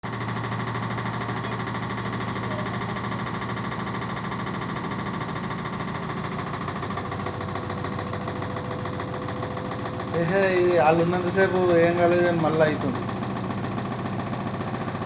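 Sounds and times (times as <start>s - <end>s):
washing machine droning and buzzing: 0.0s - 15.0s.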